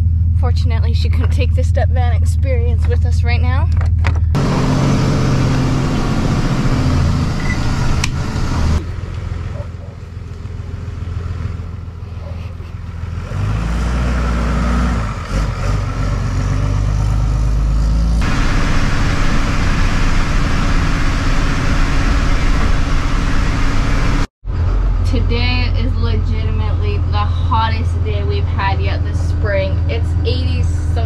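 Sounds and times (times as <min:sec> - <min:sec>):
road noise: 0:00.0 - 0:31.0
van engine: 0:00.0 - 0:31.0.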